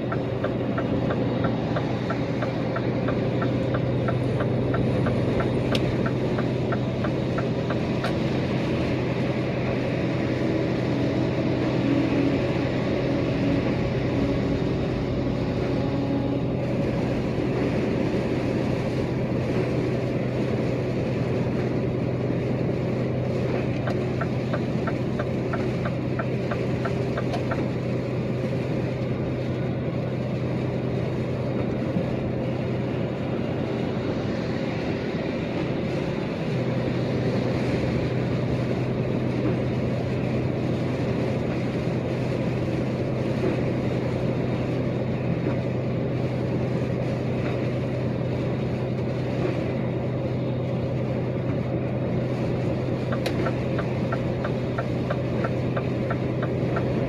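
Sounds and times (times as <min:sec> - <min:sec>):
road and wind noise: 0:00.0 - 0:57.0
truck engine drone: 0:00.0 - 0:57.0.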